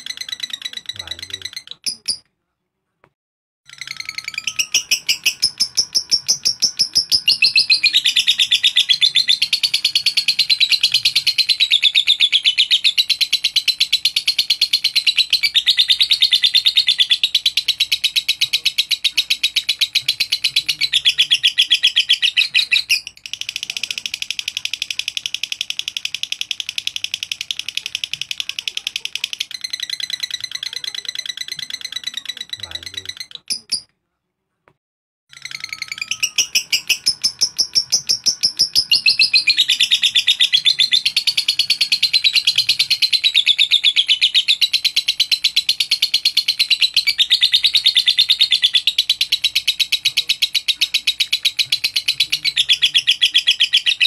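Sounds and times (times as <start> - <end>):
lovebird chattering trill: 0.0 - 2.2, 3.7 - 33.9, 35.3 - 54.0.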